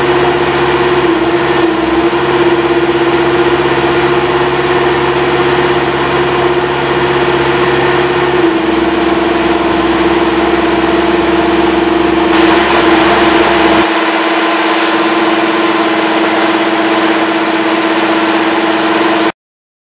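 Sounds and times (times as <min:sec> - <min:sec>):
vehicle engine running steadily: 0:00.0 - 0:19.3.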